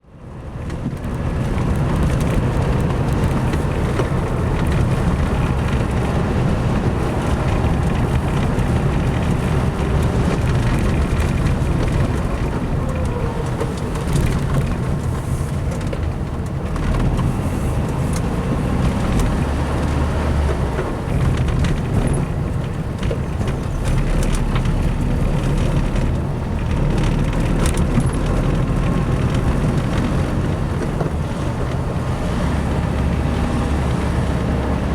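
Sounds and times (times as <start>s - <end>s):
road and wind noise: 0.0s - 34.9s
vehicle engine drone: 0.0s - 34.9s.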